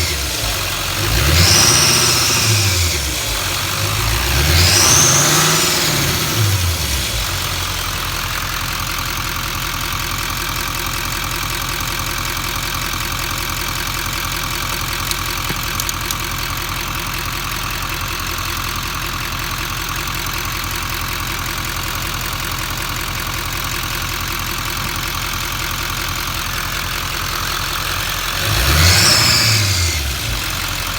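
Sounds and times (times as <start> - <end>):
diesel engine idling and revving: 0.0 - 30.9.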